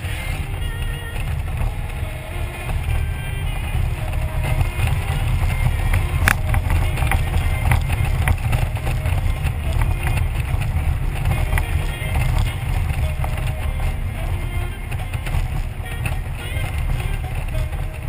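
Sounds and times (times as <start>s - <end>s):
motorcycle engine running: 0.0s - 18.0s
wind rumbling on microphone: 0.0s - 18.0s.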